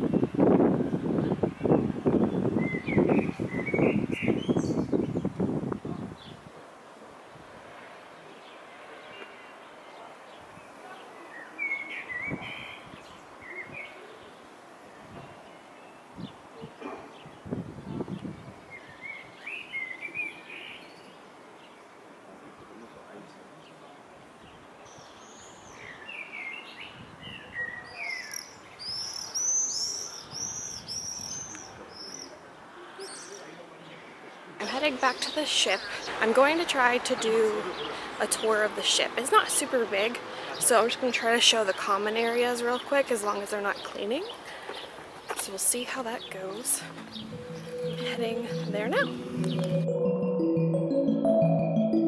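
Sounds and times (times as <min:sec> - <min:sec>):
songbirds chirping: 0:00.0 - 0:50.0
faint outdoor background: 0:00.0 - 0:52.0.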